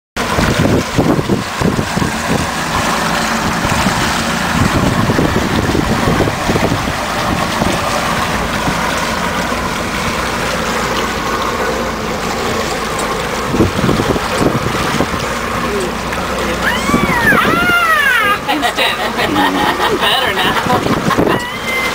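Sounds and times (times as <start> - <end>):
wind buffeting microphone: 0.2 - 18.5, 19.2 - 21.9
outboard motor running: 0.2 - 21.9.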